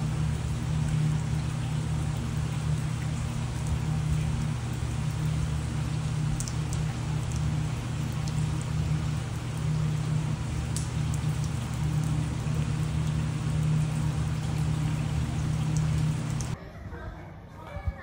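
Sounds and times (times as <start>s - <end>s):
low hum: 0.0s - 16.6s
rain drop ticks: 0.0s - 16.6s
steady rain hiss: 0.0s - 16.6s.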